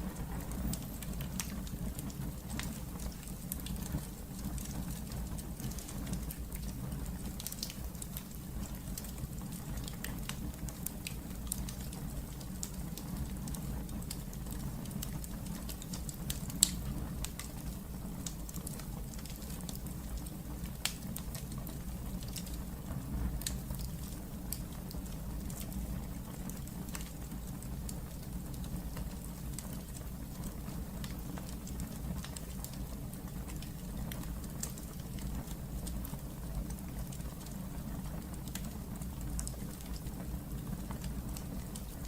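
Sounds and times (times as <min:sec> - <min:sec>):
fire popping and snapping: 0:00.0 - 0:42.0
wood fire crackling: 0:00.0 - 0:42.0.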